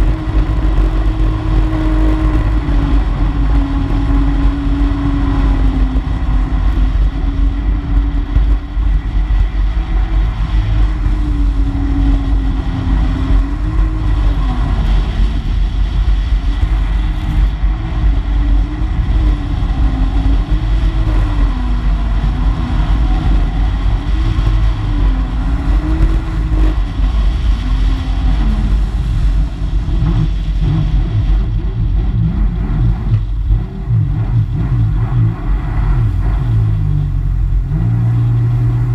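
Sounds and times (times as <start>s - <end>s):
jet ski engine revving: 0.0s - 38.9s
rush of water and wind: 0.0s - 38.9s.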